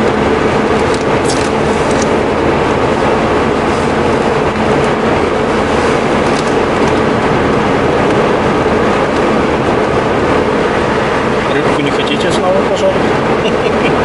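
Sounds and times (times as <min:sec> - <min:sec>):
car interior engine and road drone: 0:00.0 - 0:14.0.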